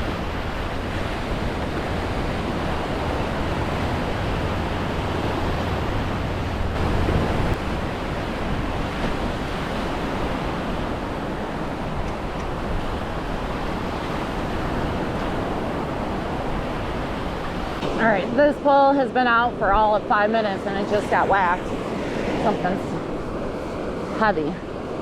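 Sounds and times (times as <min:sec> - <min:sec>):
surf washing onto beach: 0:00.0 - 0:25.0
wind rumbling on microphone: 0:00.0 - 0:25.0.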